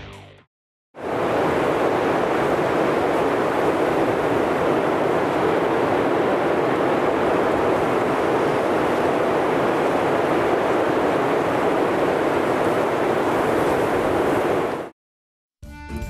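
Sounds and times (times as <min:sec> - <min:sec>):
steady rushing noise: 0:01.0 - 0:14.9.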